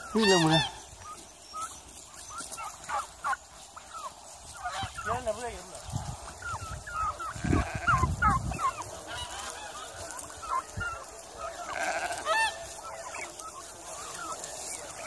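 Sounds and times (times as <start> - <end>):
turkeys yelping: 0.0 - 15.0.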